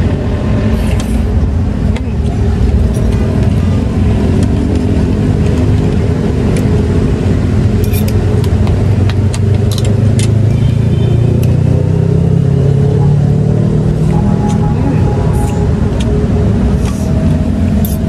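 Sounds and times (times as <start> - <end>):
large vehicle engine rumble: 0.0 - 18.0
road traffic rumble: 0.0 - 18.0.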